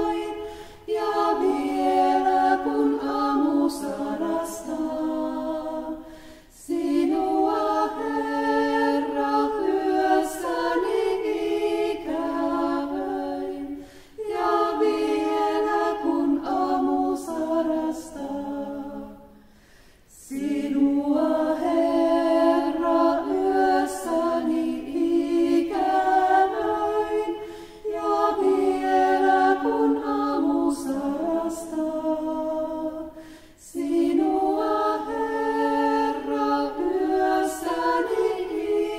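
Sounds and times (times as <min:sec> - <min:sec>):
women singing a slow chant: 0:00.0 - 0:38.9.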